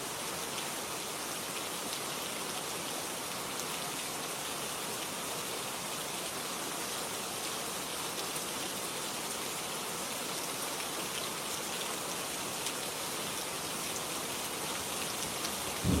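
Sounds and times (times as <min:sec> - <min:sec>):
rain pattering on a surface: 0:00.0 - 0:16.0.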